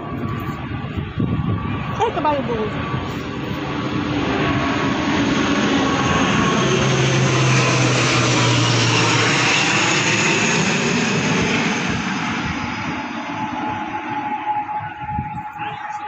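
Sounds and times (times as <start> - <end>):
aircraft flying overhead: 0.0 - 16.0.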